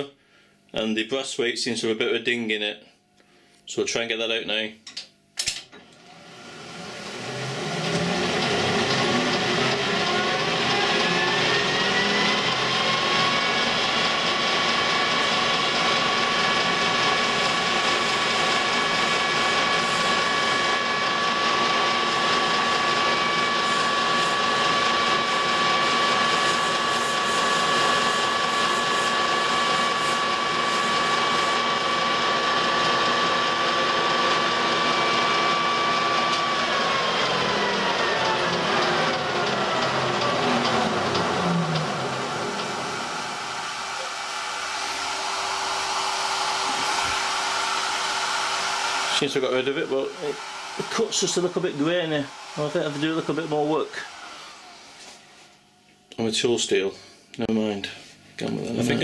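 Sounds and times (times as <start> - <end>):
machine noise: 5.0 - 55.5
lathe motor whine: 5.8 - 55.8.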